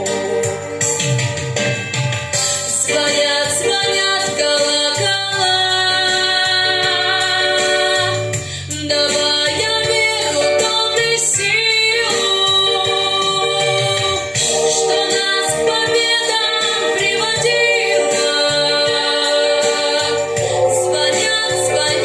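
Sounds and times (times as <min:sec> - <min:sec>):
backing music: 0:00.0 - 0:22.0.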